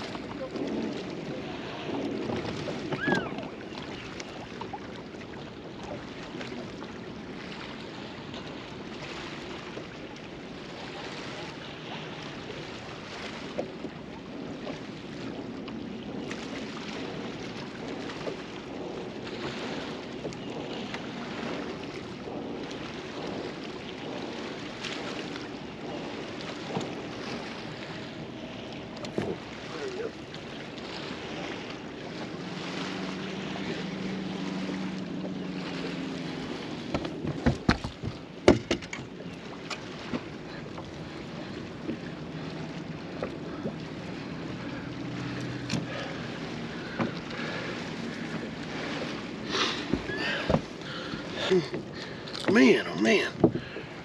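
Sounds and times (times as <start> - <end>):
waves lapping against boat hull: 0.0 - 54.0
wind on microphone: 0.0 - 54.0.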